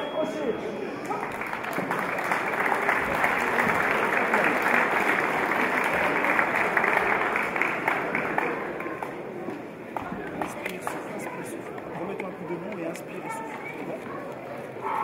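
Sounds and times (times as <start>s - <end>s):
crowd applauding: 1.0s - 13.9s.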